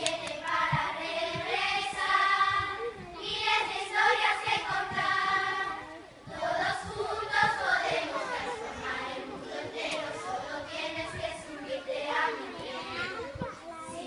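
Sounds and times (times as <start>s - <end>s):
children's choir singing: 0.0s - 13.1s.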